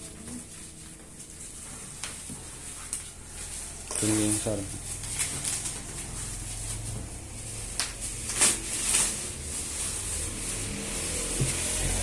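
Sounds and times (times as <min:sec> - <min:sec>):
packaging rustling: 0:00.5 - 0:12.0.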